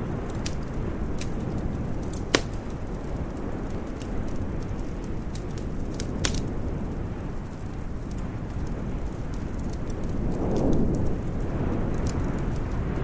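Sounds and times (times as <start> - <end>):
steady low rumble: 0.0 - 13.0
wood fire crackling: 0.0 - 13.0.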